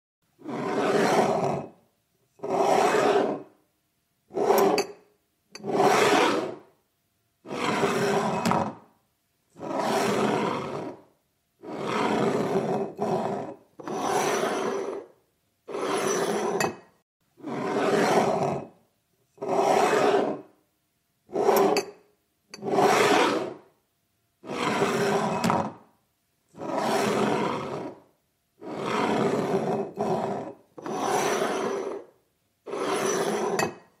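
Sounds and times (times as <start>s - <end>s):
glass scraping on wooden table: 0.4s - 1.8s, 2.4s - 3.6s, 4.3s - 6.7s, 7.5s - 8.8s, 9.6s - 18.8s, 19.4s - 20.5s, 21.3s - 23.7s, 24.4s - 25.8s, 26.6s - 28.0s, 28.6s - 34.0s.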